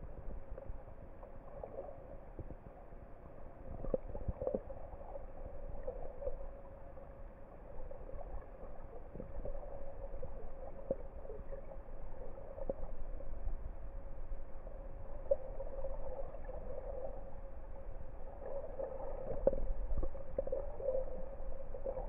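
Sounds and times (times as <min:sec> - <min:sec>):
underwater clicks and crackles: 0:00.0 - 0:22.0
underwater rumble and hum: 0:00.0 - 0:22.0.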